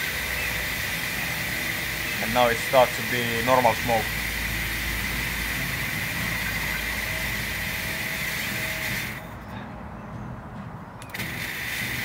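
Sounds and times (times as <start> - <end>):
fog machine hissing: 0.0 - 9.3, 11.2 - 12.0.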